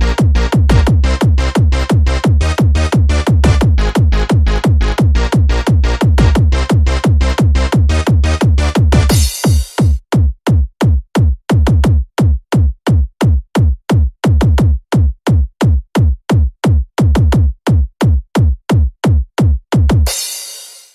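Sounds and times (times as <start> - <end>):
electronic kick drum hits: 0.0 - 20.9.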